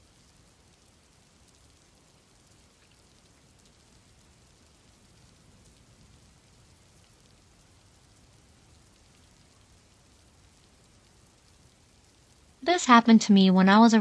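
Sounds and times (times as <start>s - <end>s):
faint steady rain: 0.0s - 14.0s.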